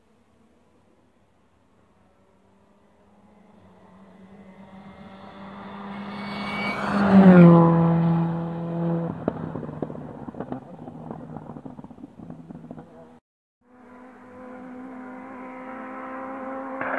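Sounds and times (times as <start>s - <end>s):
rally car engine passing by: 1.7s - 16.9s.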